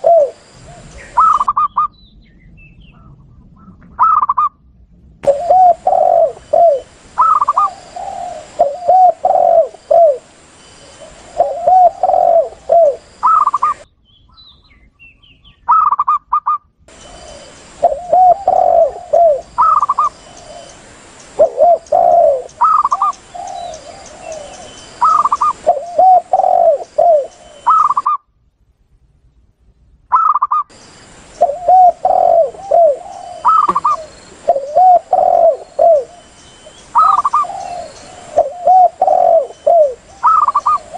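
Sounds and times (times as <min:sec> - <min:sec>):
doves cooing low: 0:00.0 - 0:01.9, 0:02.9 - 0:04.6, 0:05.2 - 0:13.9, 0:15.7 - 0:28.2, 0:30.1 - 0:40.9
higher short dove calls: 0:00.0 - 0:01.9, 0:03.6 - 0:04.5, 0:05.2 - 0:10.3, 0:10.9 - 0:13.9, 0:15.7 - 0:28.2, 0:30.1 - 0:30.7, 0:31.4 - 0:40.9.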